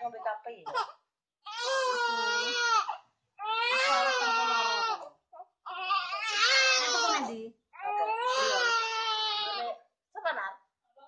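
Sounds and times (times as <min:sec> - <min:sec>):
newborn baby crying: 0:00.1 - 0:09.9.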